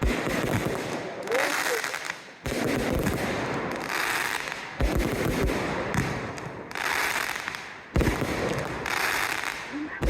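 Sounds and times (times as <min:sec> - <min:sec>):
fireworks booms: 0:00.0 - 0:10.0
fireworks hissing crackle: 0:00.7 - 0:10.0.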